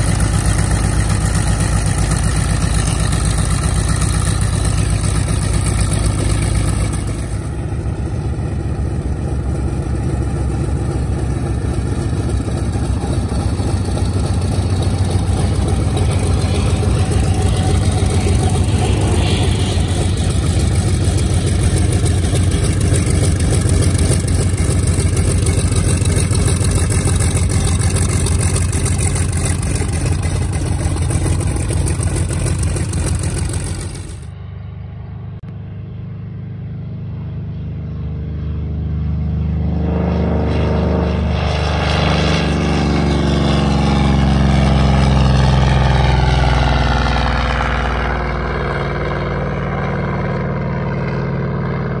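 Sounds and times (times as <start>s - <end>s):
aircraft radial engine: 0.0s - 52.0s
propeller noise: 0.0s - 52.0s.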